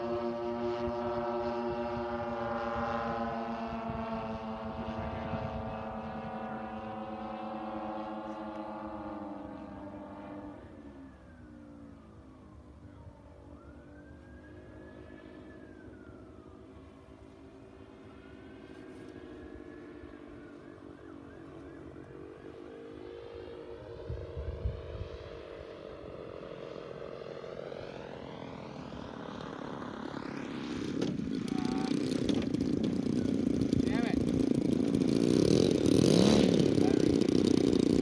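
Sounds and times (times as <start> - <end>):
model plane engines droning: 0.0 - 38.0.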